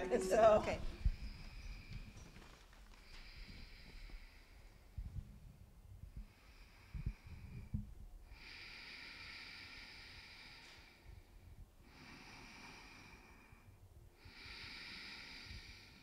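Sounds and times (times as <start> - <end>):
deep breaths close to microphone: 0.0 - 16.0.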